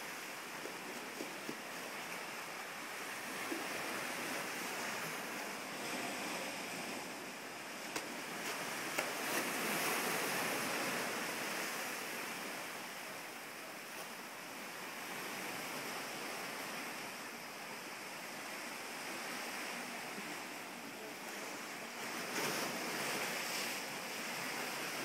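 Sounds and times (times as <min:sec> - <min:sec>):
ocean surf washing: 0:00.0 - 0:25.0.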